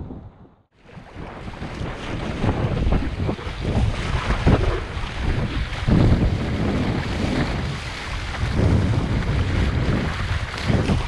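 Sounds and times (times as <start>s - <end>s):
wind buffeting microphone: 0.0s - 11.0s
paddle stroking through water: 0.8s - 11.0s
water splashing along kayak hull: 0.8s - 11.0s.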